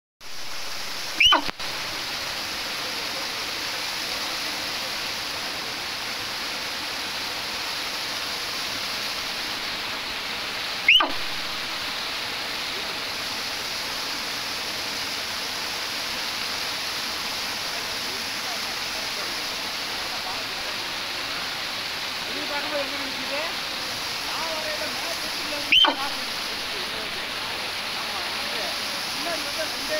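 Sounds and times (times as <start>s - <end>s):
stream rushing over rocks: 0.2s - 29.9s.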